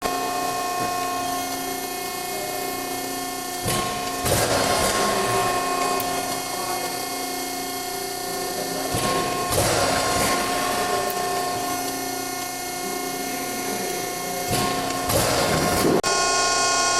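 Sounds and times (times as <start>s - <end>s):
hydraulic pump whine: 0.0s - 16.9s.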